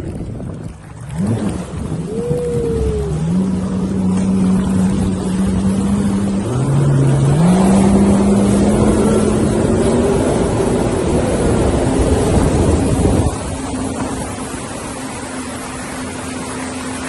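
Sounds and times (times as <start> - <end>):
jet ski engine running: 0.0 - 17.0
steady rush of noise: 1.1 - 17.0.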